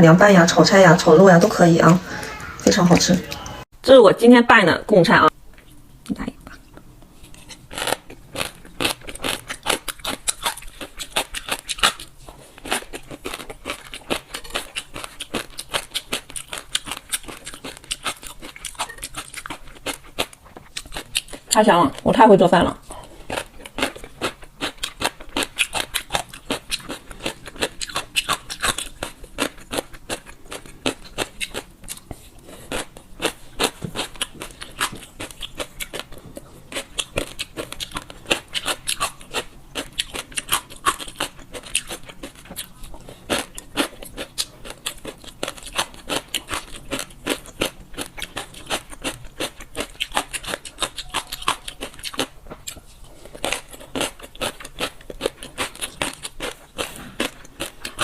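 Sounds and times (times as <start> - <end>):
crunchy chewing: 6.5 - 22.1, 22.9 - 58.0.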